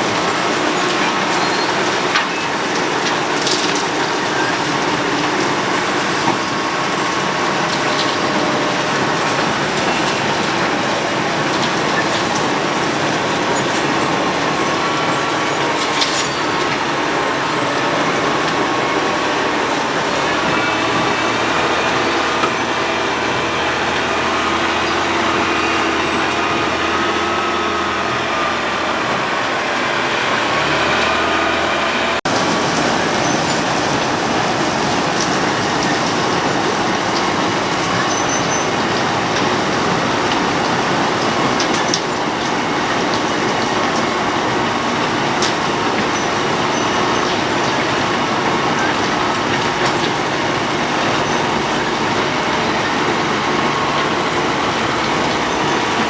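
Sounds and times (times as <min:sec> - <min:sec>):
diesel engine running: 0:00.0 - 0:56.0
road planer grinding: 0:00.0 - 0:56.0.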